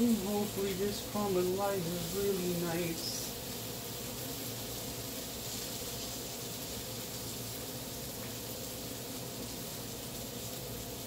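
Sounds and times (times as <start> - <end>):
chicken sizzling on a grill: 0.0 - 11.0
low steady hum: 0.0 - 11.0.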